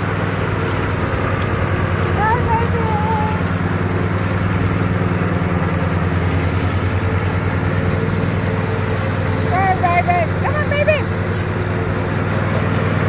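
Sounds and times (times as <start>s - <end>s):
riding mower engine droning: 0.0s - 13.0s.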